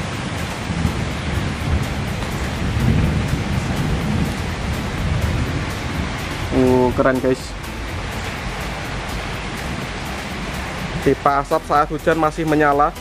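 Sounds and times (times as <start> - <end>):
deep low rumble: 0.0 - 12.0
rain on wet ground: 0.0 - 13.0.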